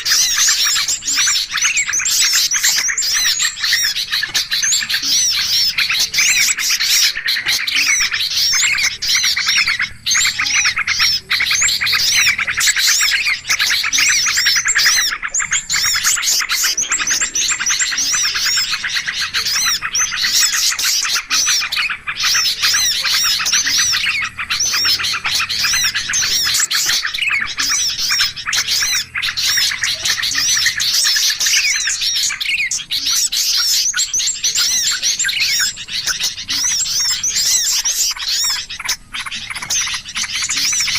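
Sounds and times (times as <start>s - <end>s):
many small birds chirping: 0.0s - 40.9s.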